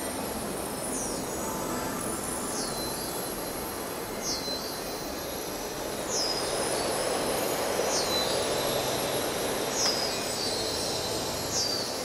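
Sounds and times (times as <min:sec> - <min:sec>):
hissing wash of noise: 0:00.0 - 0:12.0.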